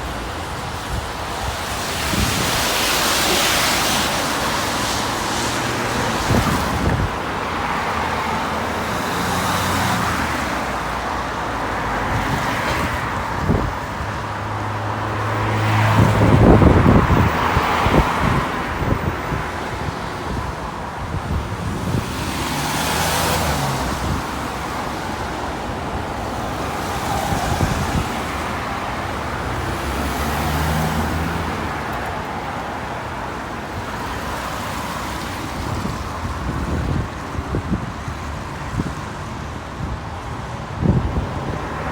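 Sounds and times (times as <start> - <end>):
vehicles passing by: 0.0 - 41.9.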